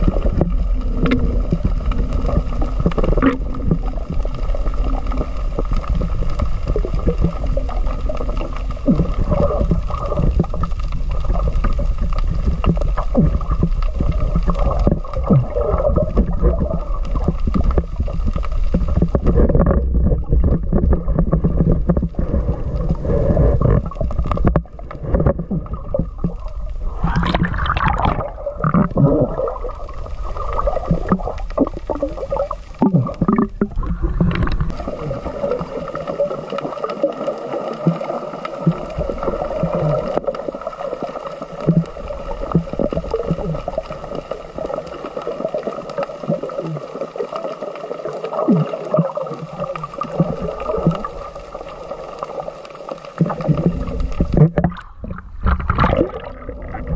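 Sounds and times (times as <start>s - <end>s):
underwater knocks and gurgles: 0.0s - 56.9s
underwater water rumble: 0.0s - 56.9s.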